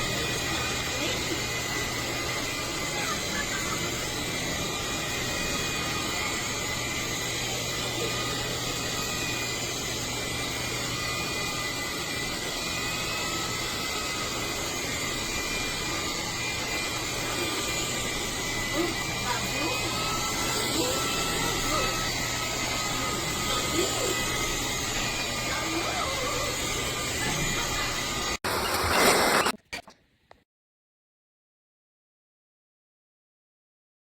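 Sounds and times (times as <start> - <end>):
stick vacuum motor running: 0.0 - 29.9.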